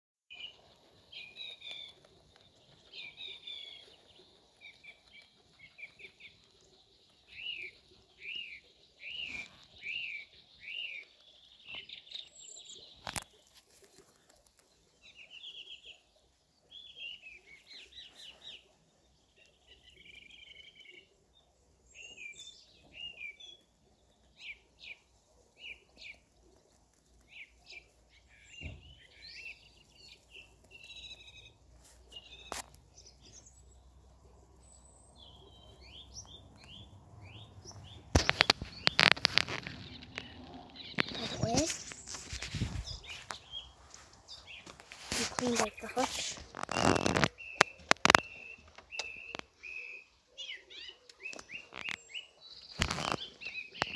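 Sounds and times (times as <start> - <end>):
songbirds chirping and singing: 0.3 - 53.9.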